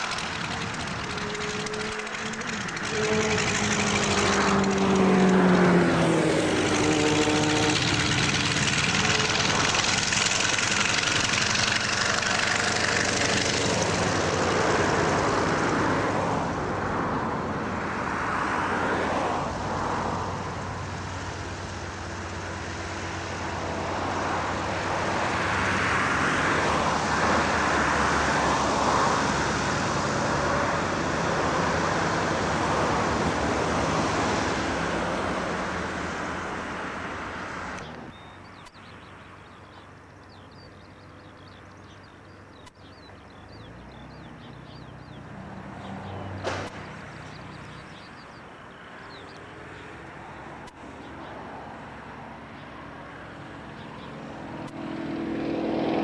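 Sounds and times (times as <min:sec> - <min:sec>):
biplane engine and propeller: 0:00.0 - 0:56.0
distant aircraft drone: 0:00.0 - 0:56.0.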